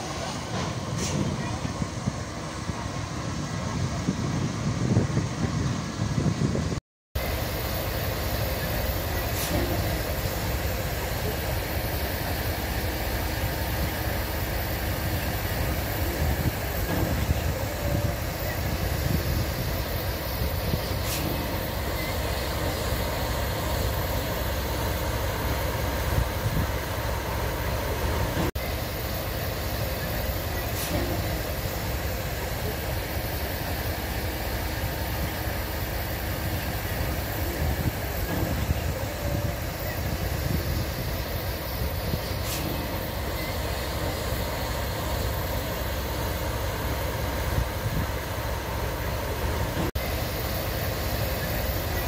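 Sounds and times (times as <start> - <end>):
locomotive engine idling: 7.2 - 52.0.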